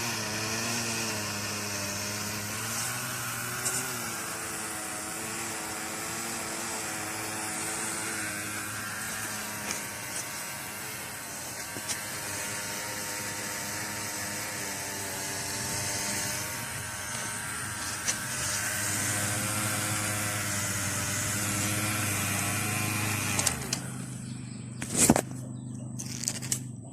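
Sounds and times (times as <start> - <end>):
small electric motor whine: 0.0 - 26.8.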